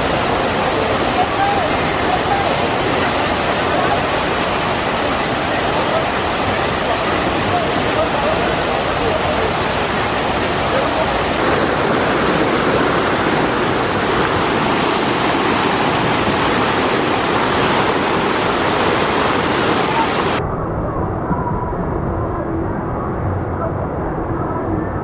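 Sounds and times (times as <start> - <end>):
quieter dull water sound: 0.0 - 25.0
water rushing down a concrete flume: 0.0 - 25.0.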